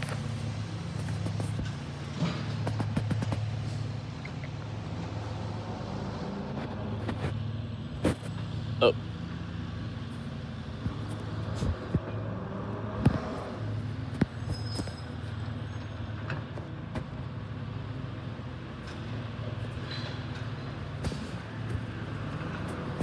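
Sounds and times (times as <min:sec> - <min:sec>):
distant truck engine humming: 0:00.0 - 0:23.0.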